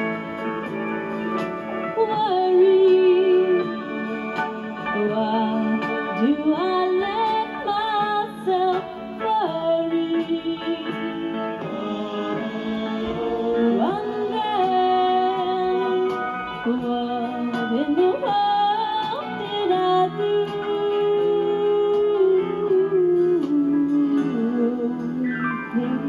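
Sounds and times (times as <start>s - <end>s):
live band playing country ballad: 0.0s - 26.0s
woman singing into microphone: 1.8s - 26.0s.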